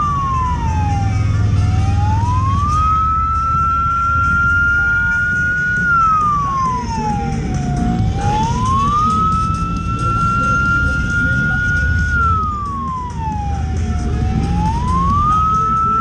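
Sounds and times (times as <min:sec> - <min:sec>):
motorcycle engines rumbling: 0:00.0 - 0:16.0
siren wailing: 0:00.0 - 0:16.0.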